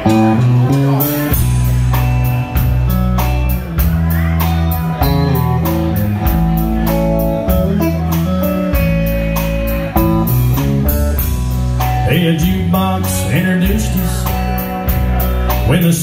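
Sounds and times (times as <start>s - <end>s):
drum kit beat: 0.0s - 16.0s
electric bass: 0.0s - 16.0s
electric guitar melody: 0.0s - 16.0s.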